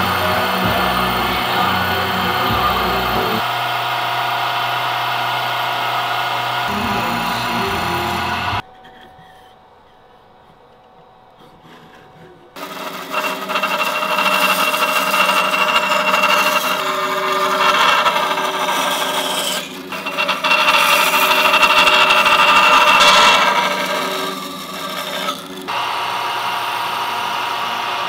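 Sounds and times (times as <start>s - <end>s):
band saw cutting wood: 0.0s - 9.0s, 11.4s - 28.0s.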